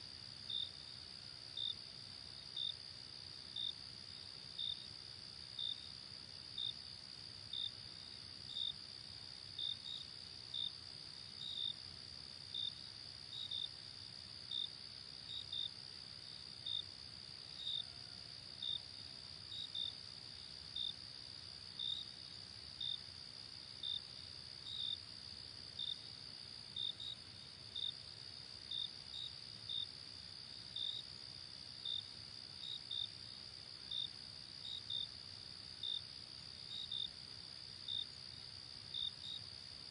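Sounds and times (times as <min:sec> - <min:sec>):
faint low background noise: 0:00.0 - 0:39.9.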